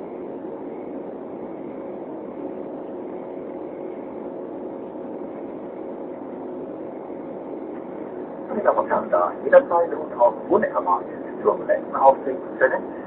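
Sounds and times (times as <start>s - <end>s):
faint steady hum: 0.0s - 13.0s
jet engine and airflow rush: 0.0s - 13.0s.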